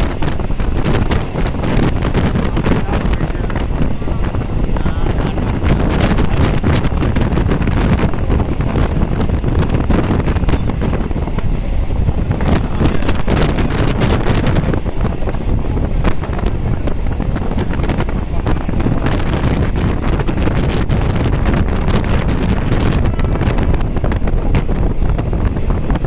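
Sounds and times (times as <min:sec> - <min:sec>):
train rumbling: 0:00.0 - 0:26.0
wind buffeting microphone: 0:00.0 - 0:26.0.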